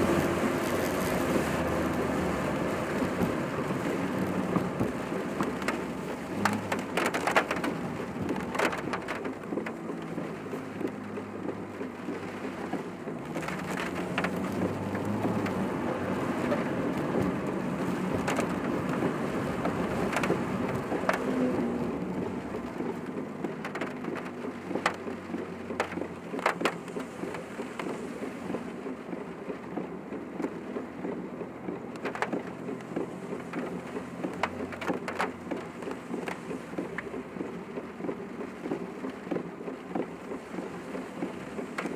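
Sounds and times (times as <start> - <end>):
car engine and road hum: 0.0 - 41.9
rain hitting a car: 0.0 - 41.9.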